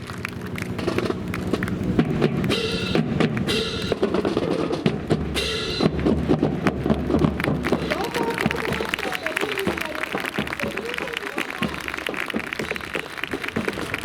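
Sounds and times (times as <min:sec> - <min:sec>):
drums playing a beat: 0:00.0 - 0:14.0.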